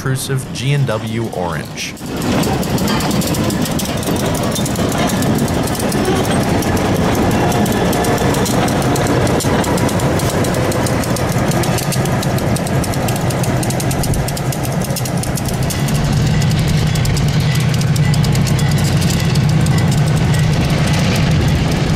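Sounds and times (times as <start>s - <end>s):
diesel locomotive drone: 0.0s - 21.9s
steel wheels clattering on rails: 0.3s - 21.9s.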